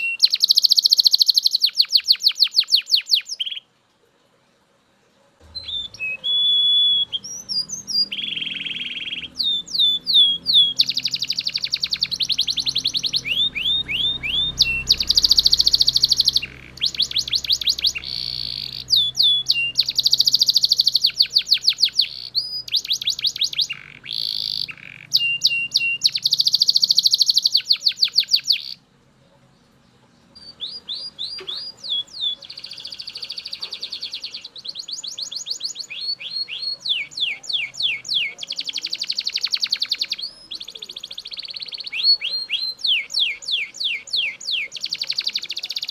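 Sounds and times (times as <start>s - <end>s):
canary singing trills: 0.0s - 3.7s, 5.4s - 45.9s.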